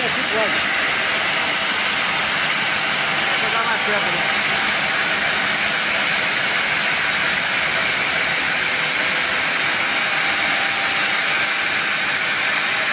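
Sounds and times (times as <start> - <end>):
circular saw grinding stone: 0.0 - 12.9.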